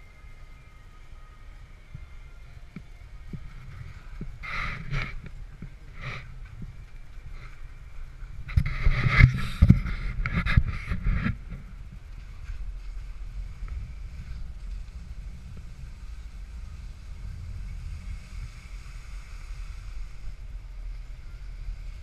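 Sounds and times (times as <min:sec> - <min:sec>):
wind rumble on microphone: 0:00.0 - 0:22.0
skis sliding over snow: 0:03.2 - 0:22.0.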